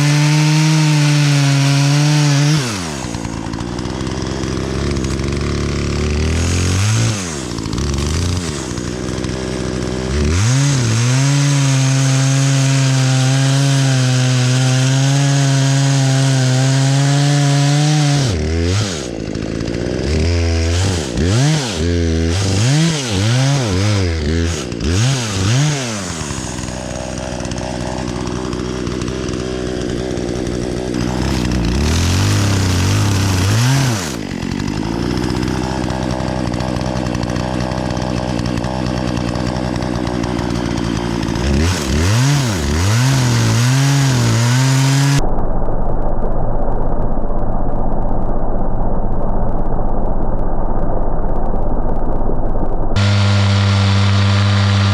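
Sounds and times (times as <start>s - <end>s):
chainsaw engine revving: 0.0s - 45.2s, 53.0s - 54.9s.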